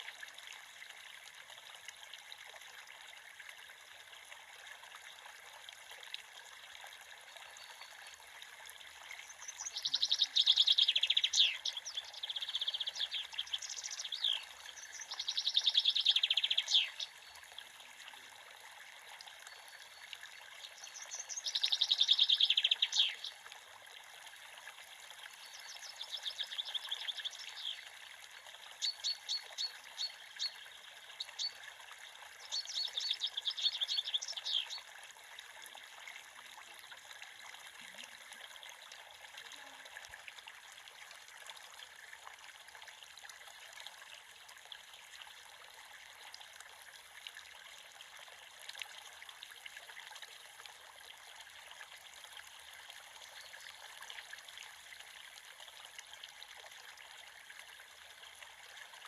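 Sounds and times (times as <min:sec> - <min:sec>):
creek water babbling: 0:00.0 - 0:59.0.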